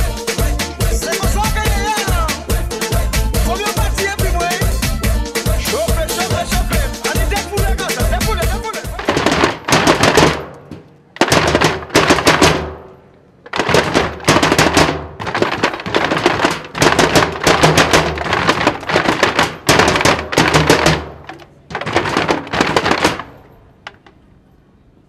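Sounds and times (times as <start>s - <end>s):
wooden percussion clatter: 0.9s - 2.3s, 5.4s - 24.2s.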